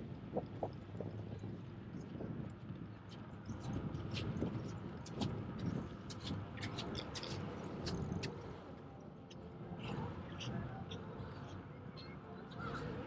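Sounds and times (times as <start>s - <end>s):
low rumbling outdoor noise: 0.0s - 13.0s.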